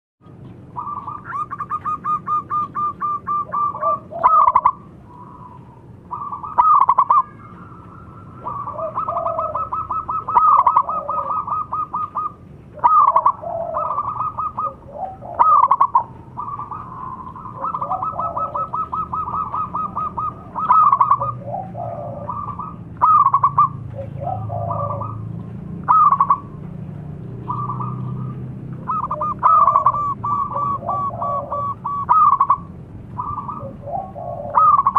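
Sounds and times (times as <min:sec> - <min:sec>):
dove cooing: 0:00.7 - 0:34.9.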